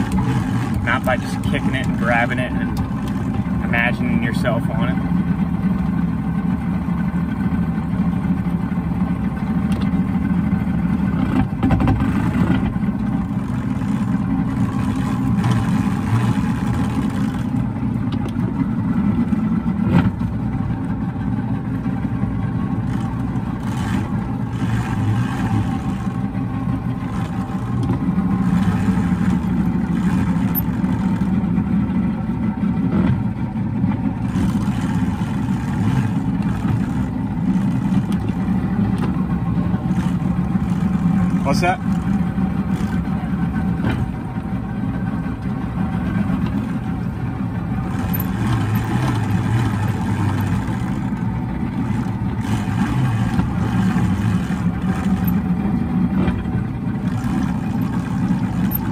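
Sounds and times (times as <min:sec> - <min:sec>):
outboard engine running: 0:00.0 - 0:58.9.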